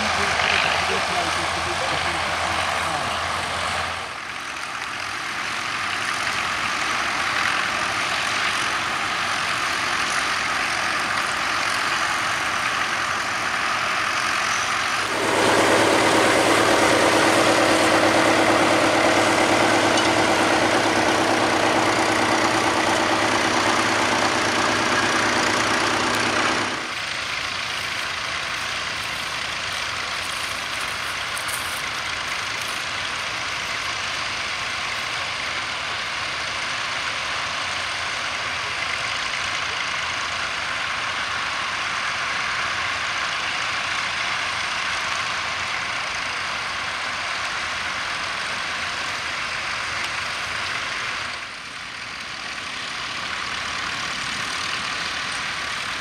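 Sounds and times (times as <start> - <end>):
close engine low hum: 0.0 - 56.0
tractor engines running: 0.0 - 56.0.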